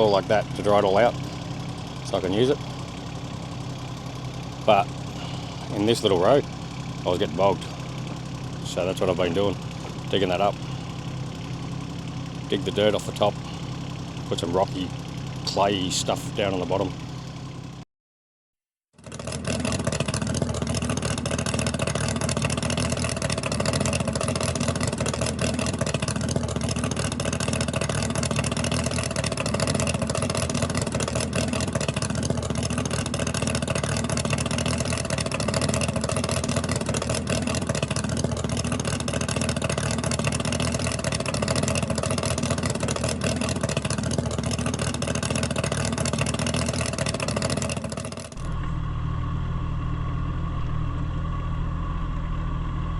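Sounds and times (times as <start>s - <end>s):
digging machine engine running: 0.0s - 17.8s, 19.0s - 52.9s.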